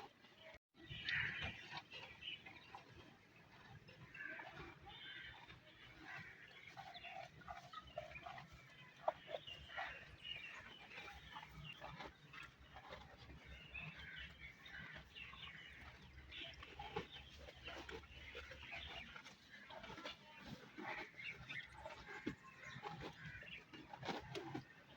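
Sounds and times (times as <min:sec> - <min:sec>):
birds calling: 0:00.8 - 0:24.9.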